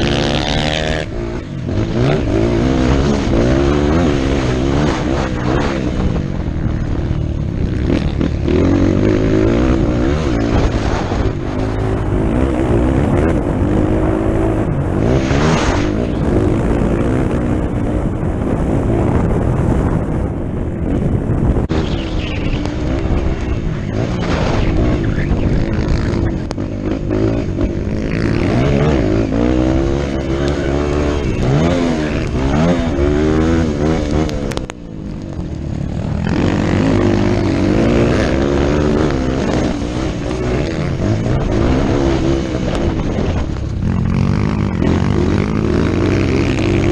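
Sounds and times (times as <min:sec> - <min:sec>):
dirt bike engine revving: 0:00.0 - 0:20.2, 0:20.9 - 0:46.9
rushing noise: 0:00.0 - 0:46.9.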